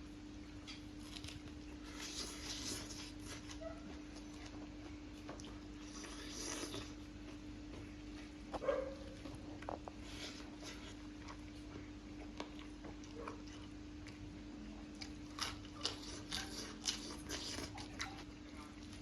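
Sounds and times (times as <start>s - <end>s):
chewing and crunching: 0.4s - 19.0s.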